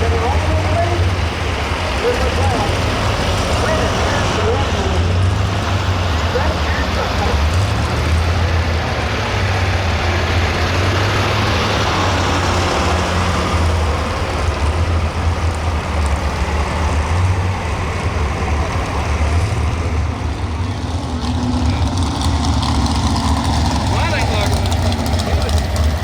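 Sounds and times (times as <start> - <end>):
truck engine running loud: 0.0 - 26.0.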